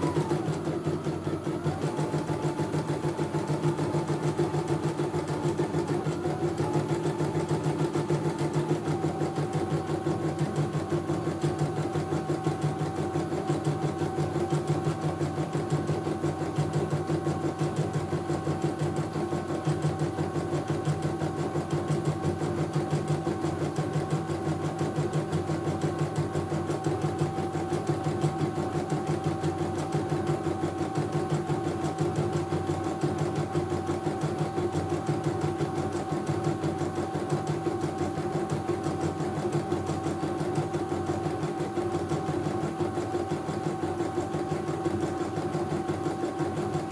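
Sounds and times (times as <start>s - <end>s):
embroidery machine stitching: 0.0s - 46.9s.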